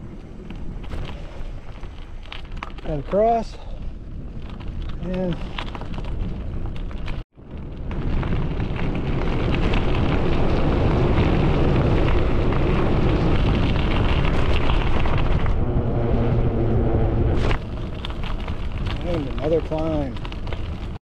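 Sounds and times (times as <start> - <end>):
bicycle tyre noise on road: 0.0 - 21.0
wind rushing over microphone: 0.0 - 21.0.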